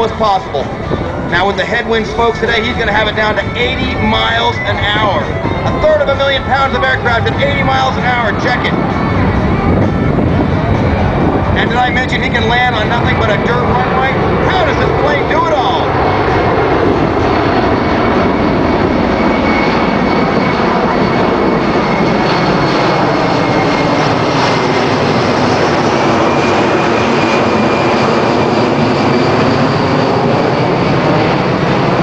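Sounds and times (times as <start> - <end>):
faint high whine: 0.0 - 31.4
jet engines roaring: 0.0 - 32.0.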